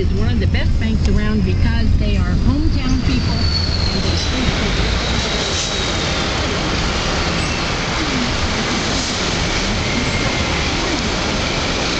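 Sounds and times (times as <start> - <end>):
low road rumble: 0.0 - 11.9
tyres and wind hissing: 0.0 - 11.9.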